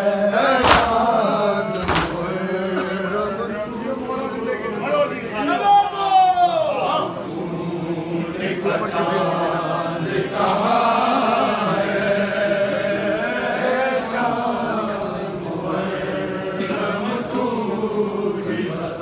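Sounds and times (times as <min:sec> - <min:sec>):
men chanting a lament: 0:00.0 - 0:19.0.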